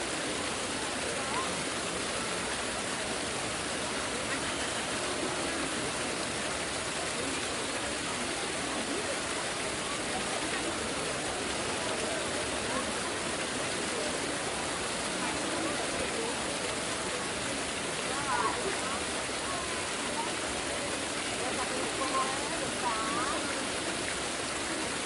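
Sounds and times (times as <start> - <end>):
crowd talking: 0.0 - 25.0.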